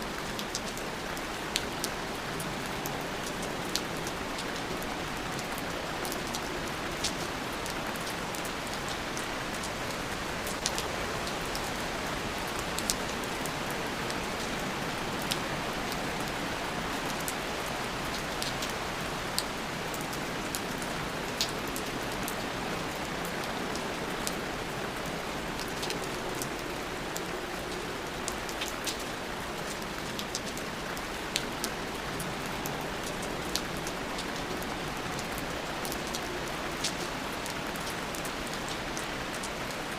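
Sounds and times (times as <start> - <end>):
rain drops ticking: 0.0 - 39.9
steady rain hiss: 0.0 - 39.9.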